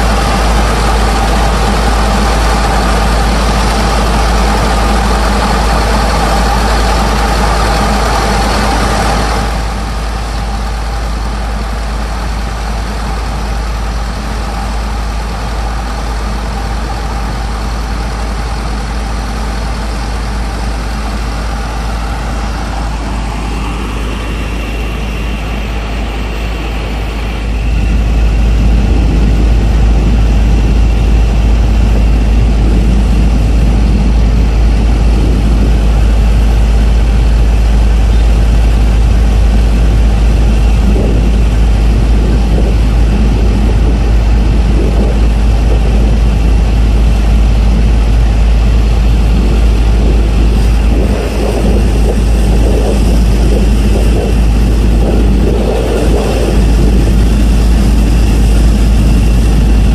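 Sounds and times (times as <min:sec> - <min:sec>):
barge engines rumbling: 0:00.0 - 0:59.9.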